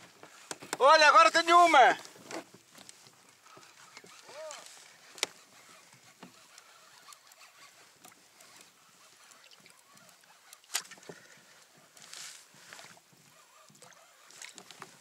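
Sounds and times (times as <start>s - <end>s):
kayak on calm water: 0.0s - 15.0s.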